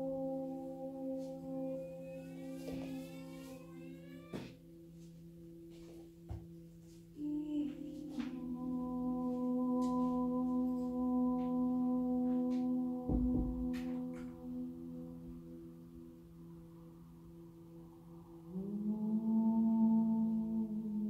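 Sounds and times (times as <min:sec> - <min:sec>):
soft drone music: 0:00.0 - 0:21.0.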